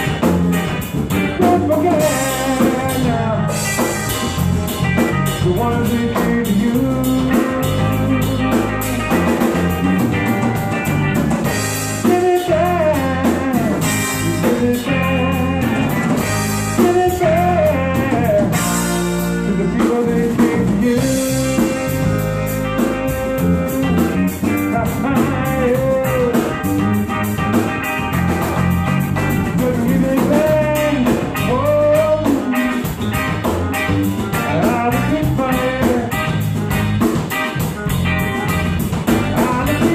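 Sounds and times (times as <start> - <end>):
blues-rock band playing: 0.0 - 39.9
electric guitar lead lines: 0.0 - 39.9.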